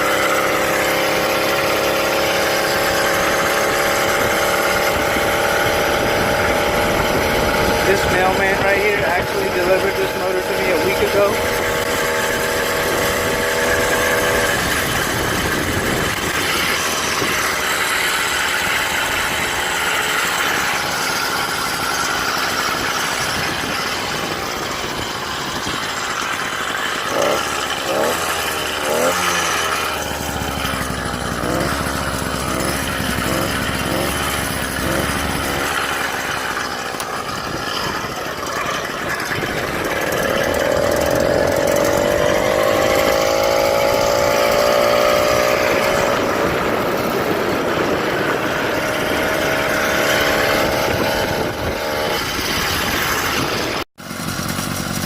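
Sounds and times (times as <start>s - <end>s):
two-stroke bicycle engine running: 0.0s - 55.0s.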